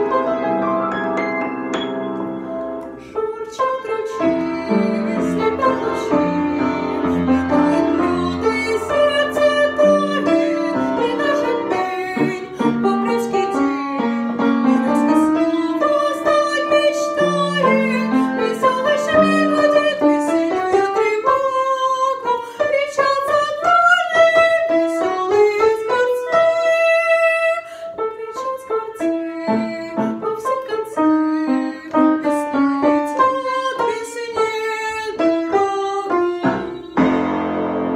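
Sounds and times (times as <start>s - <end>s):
piano accompaniment: 0.0s - 37.9s
woman singing: 3.1s - 37.2s.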